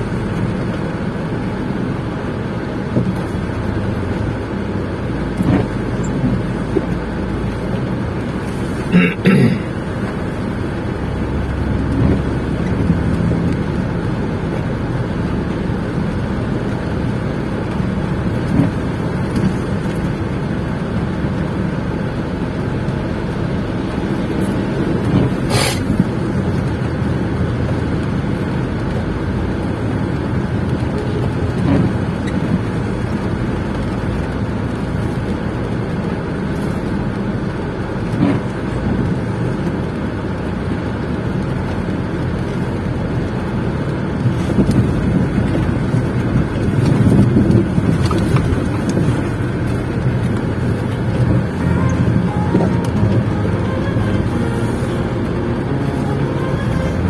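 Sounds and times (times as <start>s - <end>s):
car interior rumble and hiss: 0.0s - 57.0s.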